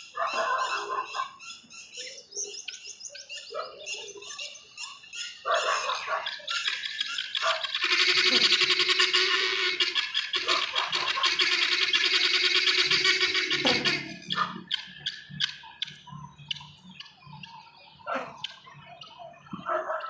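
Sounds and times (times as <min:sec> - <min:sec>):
birds squawking and chirping: 0:00.0 - 0:20.0.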